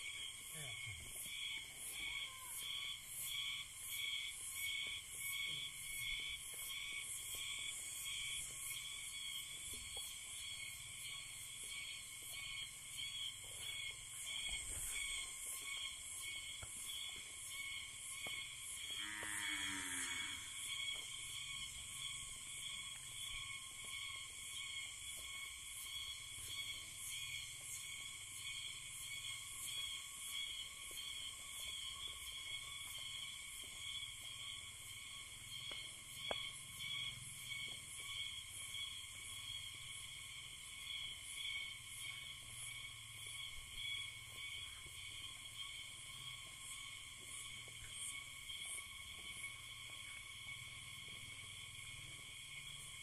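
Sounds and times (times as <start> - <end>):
forest insects trilling: 0.0 - 53.0.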